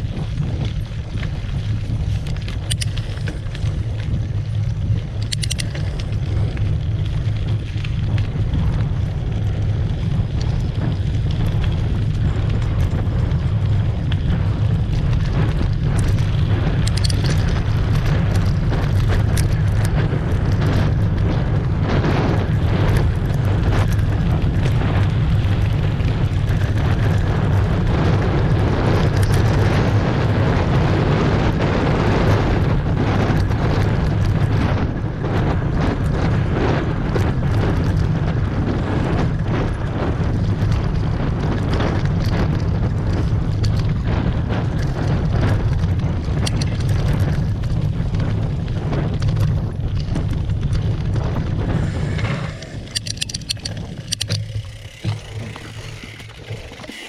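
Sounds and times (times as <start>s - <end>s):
bike knocking and rattling: 0.0s - 57.0s
tyre rumble: 0.0s - 57.0s
wind buffeting microphone: 0.0s - 57.0s.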